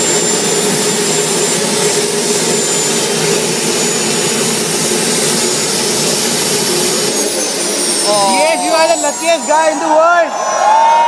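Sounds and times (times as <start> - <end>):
high-pitched turbine whine: 0.0 - 11.0
jet turbine engine running: 0.0 - 11.0.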